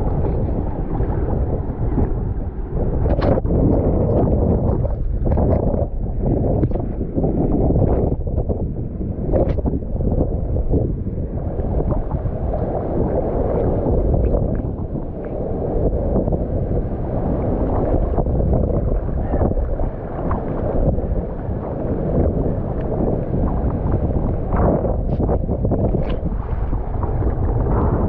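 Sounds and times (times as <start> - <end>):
water sloshing and gurgling: 0.0 - 28.0
wind buffeting microphone: 0.0 - 28.0.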